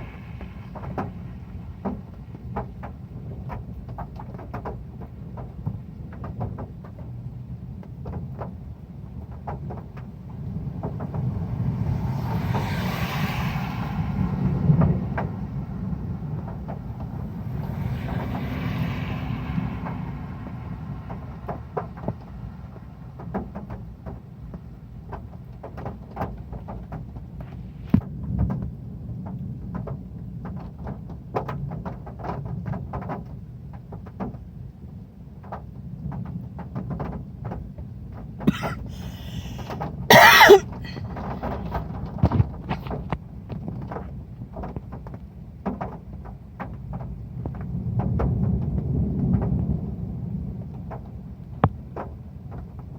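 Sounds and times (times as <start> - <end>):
heavy rain on a metal roof: 0.0 - 38.4, 41.0 - 52.9.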